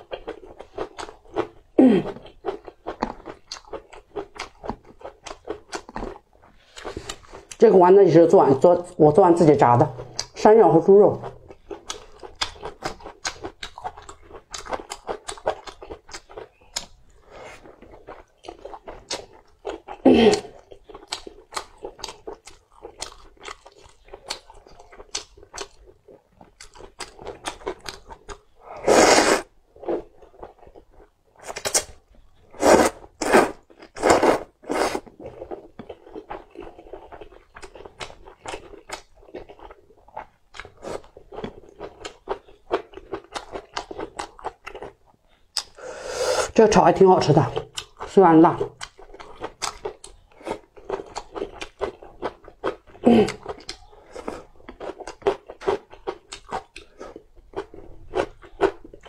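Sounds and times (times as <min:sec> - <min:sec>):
close chewing and crunching: 0:00.0 - 0:07.9, 0:08.8 - 0:45.8, 0:47.2 - 0:59.0.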